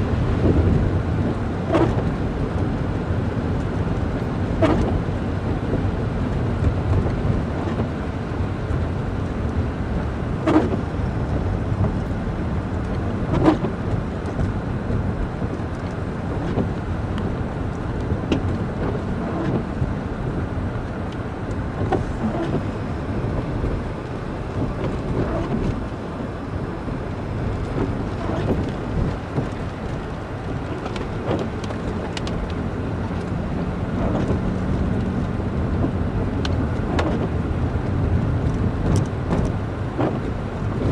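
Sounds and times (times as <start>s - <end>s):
vehicle road and engine noise: 0.0s - 40.9s.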